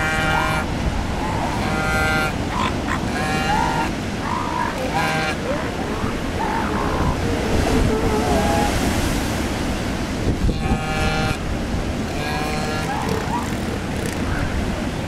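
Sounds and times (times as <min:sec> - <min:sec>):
seal calls: 0:00.0 - 0:09.1, 0:10.4 - 0:14.7
surf: 0:00.0 - 0:15.0
wind: 0:00.0 - 0:15.0.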